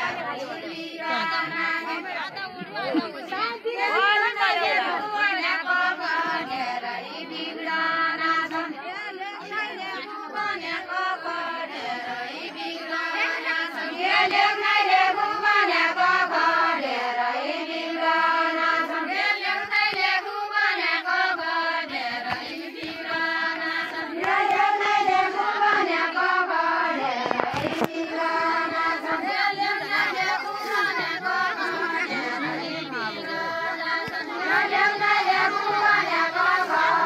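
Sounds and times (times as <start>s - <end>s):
women singing together: 0.0s - 37.0s.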